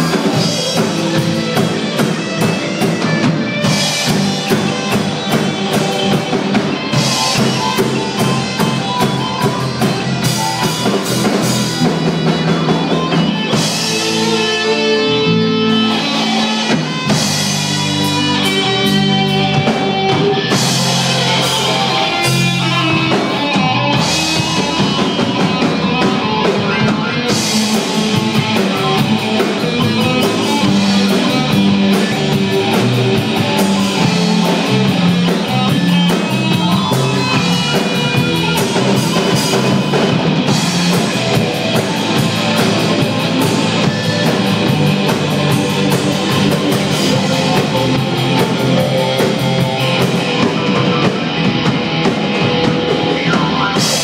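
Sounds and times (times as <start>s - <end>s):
drum kit: 0.0s - 54.0s
guitar: 0.0s - 54.0s
rock band playing: 0.0s - 54.0s.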